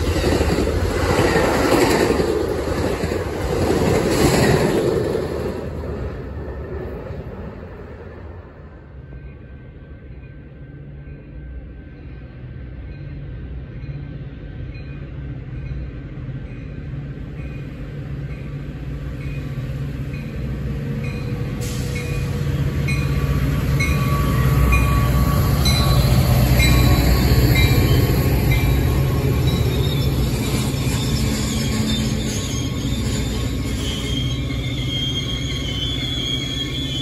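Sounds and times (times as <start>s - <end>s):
diesel locomotive rumble: 0.0s - 12.9s, 13.5s - 37.0s
rolling passenger cars: 0.0s - 37.0s.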